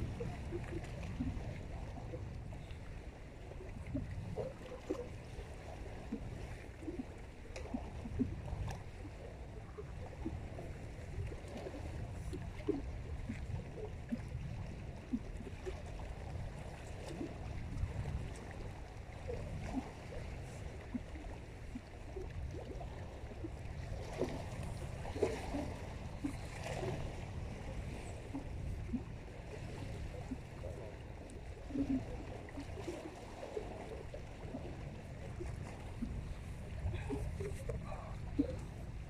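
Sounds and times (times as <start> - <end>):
water lapping and gurgling: 0.0 - 39.0.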